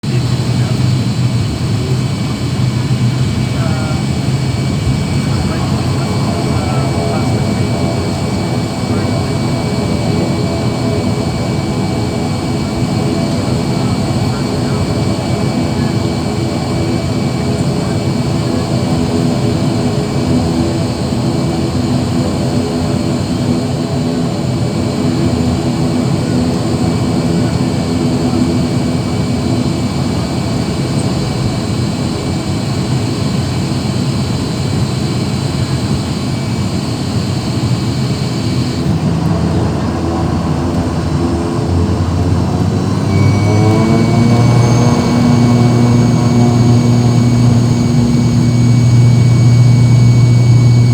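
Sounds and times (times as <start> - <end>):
turboprop engines droning: 0.0 - 50.9.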